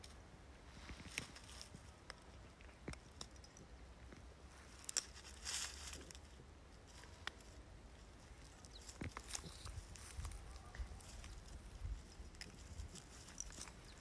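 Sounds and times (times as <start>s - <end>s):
dry grass crackling and rustling: 0.0s - 14.0s.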